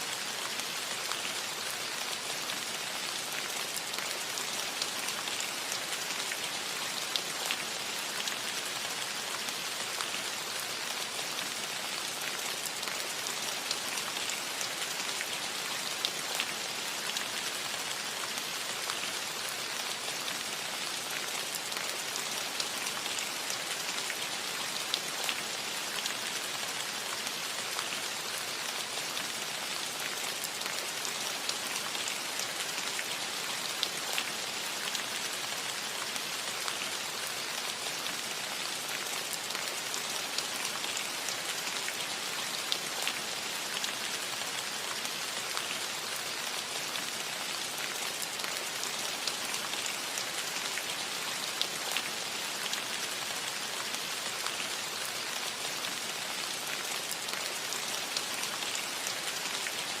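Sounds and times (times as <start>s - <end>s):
rain on a metal roof: 0.0s - 60.0s.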